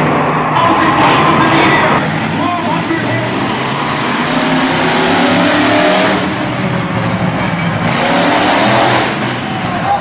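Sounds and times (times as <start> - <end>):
truck engine revving hard: 0.0 - 10.0.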